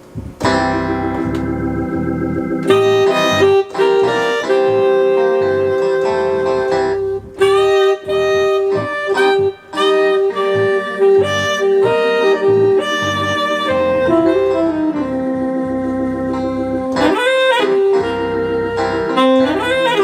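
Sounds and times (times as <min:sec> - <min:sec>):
organ backing with bass line: 0:00.1 - 0:20.0
keyboard saxophone melody: 0:00.4 - 0:20.0.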